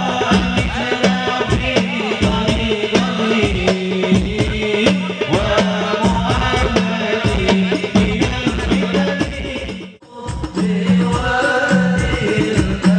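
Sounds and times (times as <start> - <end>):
frame drums playing: 0.0 - 12.9
men singing into microphones: 0.0 - 12.9.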